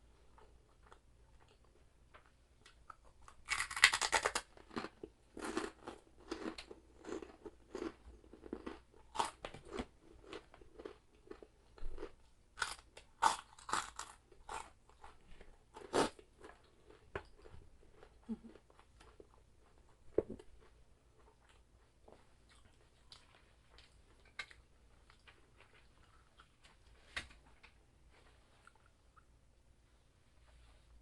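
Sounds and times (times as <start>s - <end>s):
crunching and chewing: 0.3s - 29.3s.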